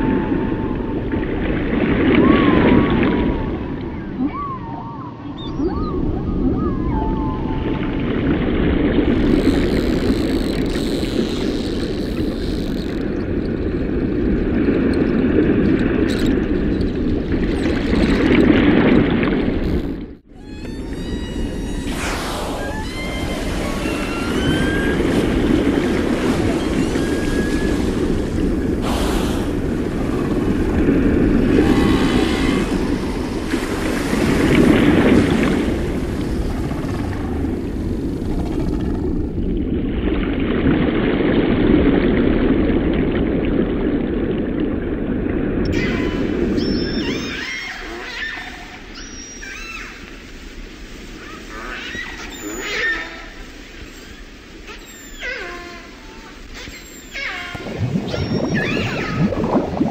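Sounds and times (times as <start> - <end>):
underwater rush of water: 0.0 - 4.6, 5.4 - 59.9.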